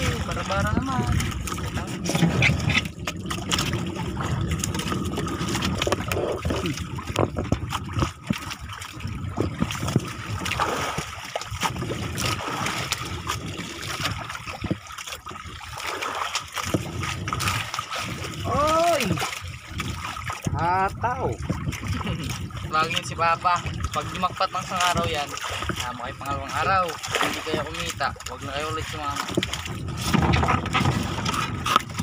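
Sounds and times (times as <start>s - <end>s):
water splashing against boat hull: 0.0s - 32.0s.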